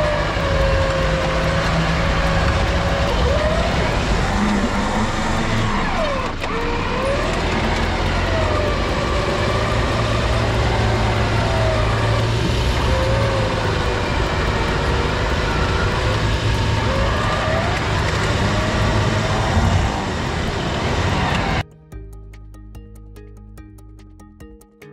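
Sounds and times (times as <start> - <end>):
engine running: 0.0 - 24.5.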